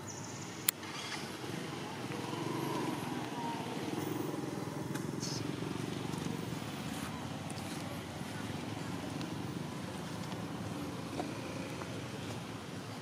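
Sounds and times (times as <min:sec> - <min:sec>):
vehicle engine running: 0:00.8 - 0:13.0.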